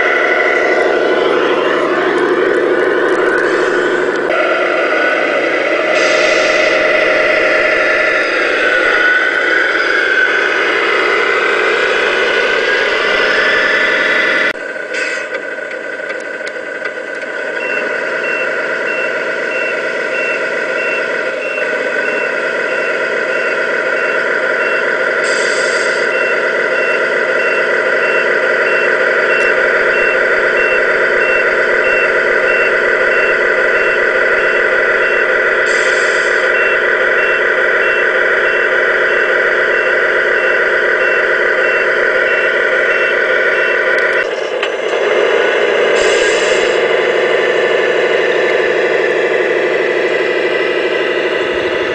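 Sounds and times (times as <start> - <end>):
reversing beeper: 0.0 - 15.3, 17.4 - 44.3
simulated diesel truck engine: 0.0 - 51.9.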